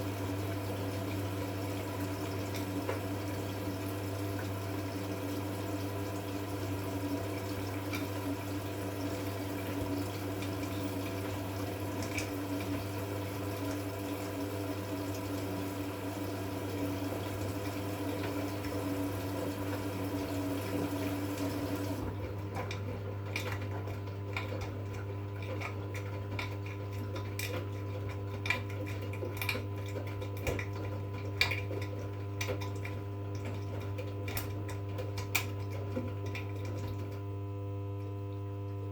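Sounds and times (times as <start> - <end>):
washing machine hum: 0.0 - 38.9.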